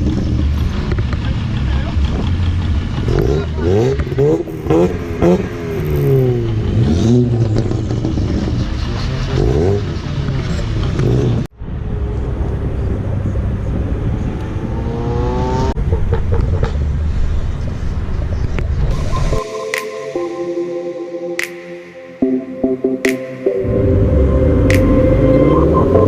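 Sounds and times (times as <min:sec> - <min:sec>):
car engines revving: 0:00.0 - 0:19.5, 0:23.0 - 0:26.0.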